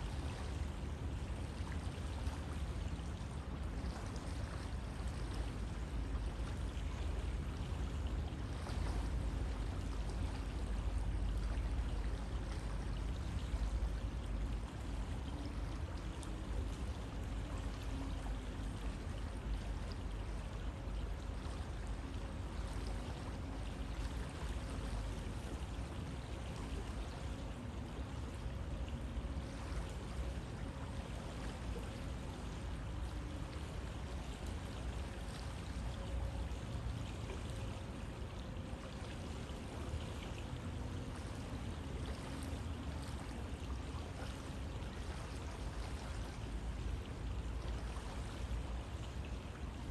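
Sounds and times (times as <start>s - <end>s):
water splashes and gurgles: 0.0s - 49.9s.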